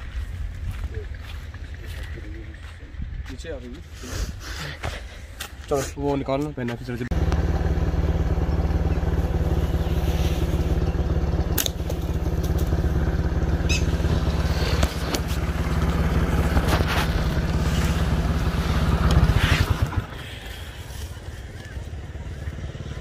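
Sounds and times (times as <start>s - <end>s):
motorcycle engine running: 0.0s - 3.8s, 7.1s - 23.0s.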